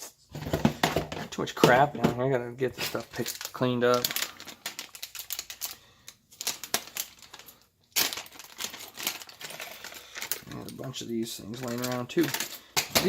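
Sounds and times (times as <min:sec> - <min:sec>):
small hard objects clattering: 0:00.4 - 0:13.0.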